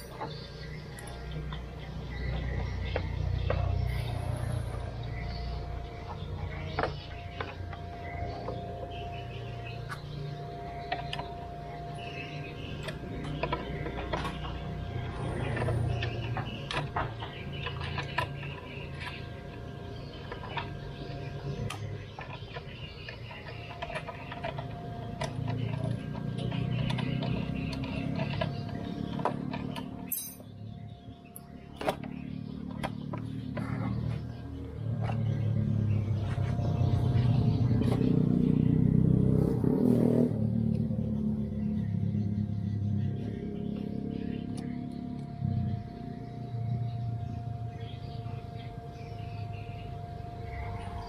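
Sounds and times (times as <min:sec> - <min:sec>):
small motorcycle engine running: 0:00.0 - 0:51.0
steady low hum: 0:00.0 - 0:51.0.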